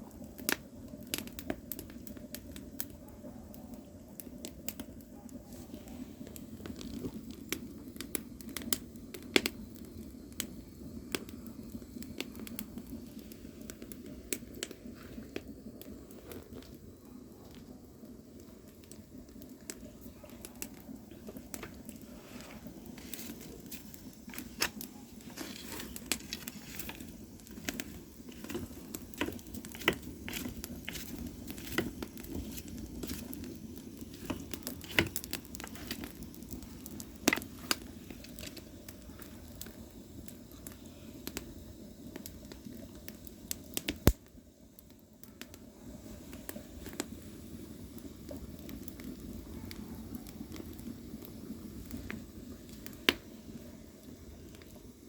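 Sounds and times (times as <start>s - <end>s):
fire crackling and popping: 0.0s - 55.0s
low rush of fire: 0.0s - 55.0s.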